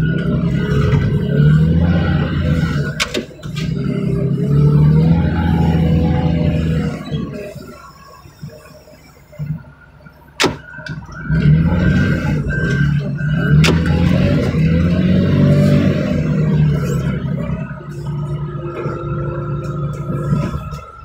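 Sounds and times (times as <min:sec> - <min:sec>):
car engine starting and running: 0:00.0 - 0:21.0.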